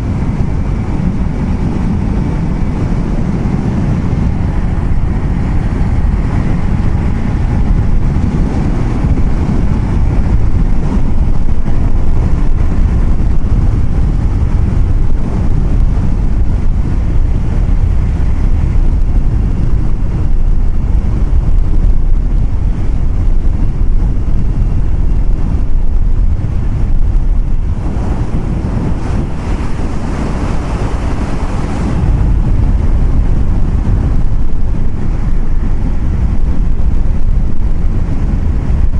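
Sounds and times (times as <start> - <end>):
vehicle road and wind rumble: 0.0 - 38.9
wind buffeting microphone: 0.0 - 38.9.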